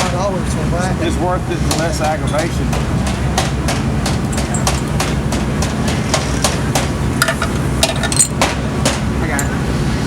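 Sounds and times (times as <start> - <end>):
low engine rumble: 0.0 - 10.0.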